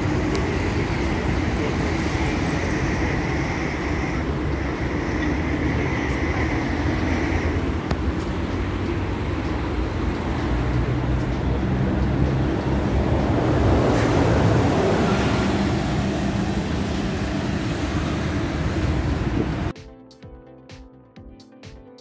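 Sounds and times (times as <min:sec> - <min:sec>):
road traffic rumble: 0:00.0 - 0:19.7
steady engine hum: 0:00.0 - 0:19.7.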